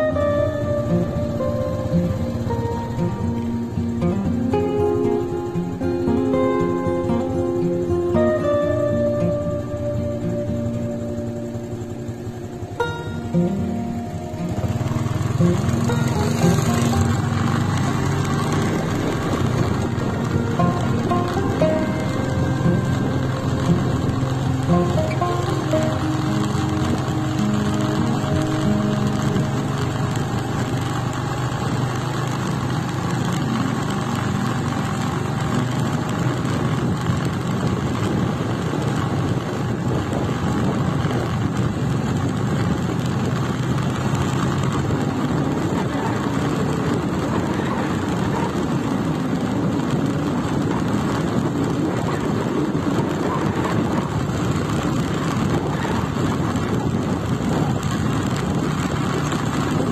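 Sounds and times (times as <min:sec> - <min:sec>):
motorcycle running: 0:00.0 - 0:59.9
wind rushing on microphone: 0:00.0 - 0:59.9.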